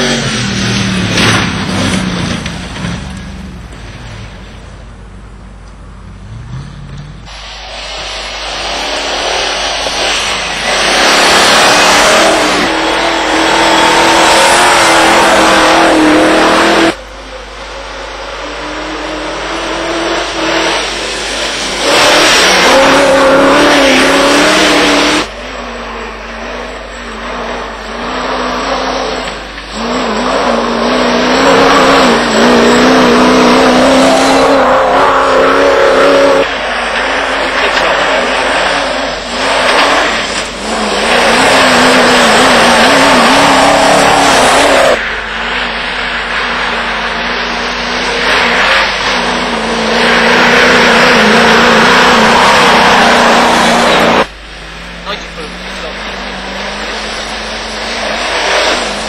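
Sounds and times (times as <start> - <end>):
engines revving hard: 0.0 - 4.6, 6.0 - 59.0.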